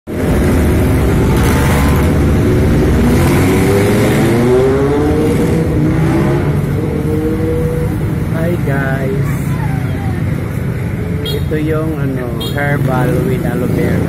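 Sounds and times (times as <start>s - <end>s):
car engine revving: 0.1s - 14.0s.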